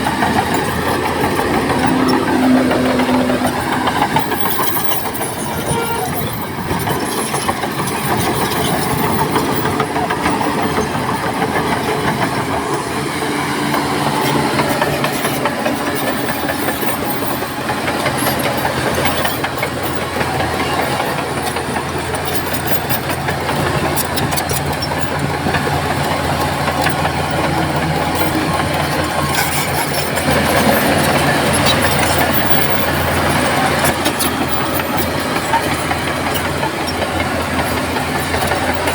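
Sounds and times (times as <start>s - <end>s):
diesel engine running: 0.0s - 38.9s
steel tracks clanking: 0.0s - 38.9s.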